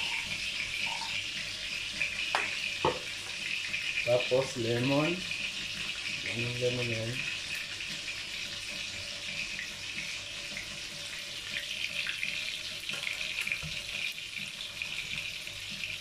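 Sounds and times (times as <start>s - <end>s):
kitchen tap running water: 0.0s - 16.0s.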